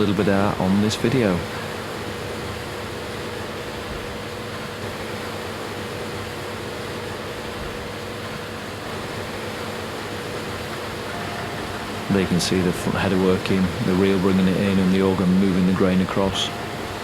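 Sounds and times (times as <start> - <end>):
combine harvester drone: 0.0 - 17.0
steady hum: 0.0 - 17.0.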